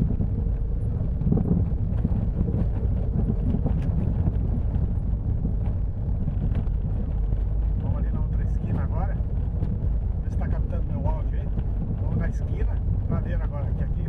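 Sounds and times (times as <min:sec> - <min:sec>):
car cabin rumble: 0:00.0 - 0:14.0
suspension knocks and ticks: 0:00.0 - 0:14.0.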